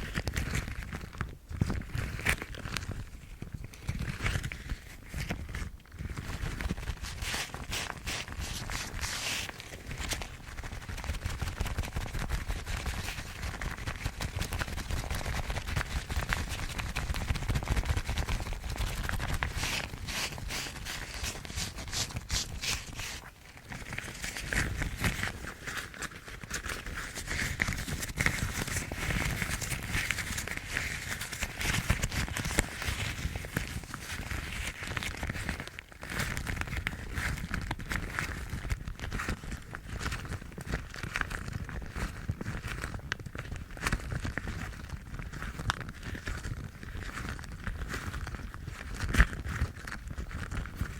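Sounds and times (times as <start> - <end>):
rubber gloves crackling rustle: 0.0 - 50.9.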